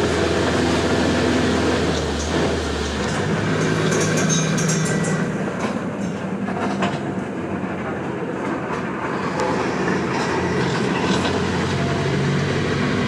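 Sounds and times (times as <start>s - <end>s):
low engine drone: 0.0s - 13.0s
road noise: 0.0s - 13.0s.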